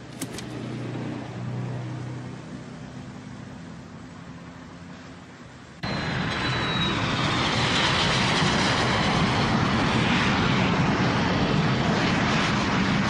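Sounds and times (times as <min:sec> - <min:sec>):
jet airliner engine roar: 0:00.0 - 0:13.0.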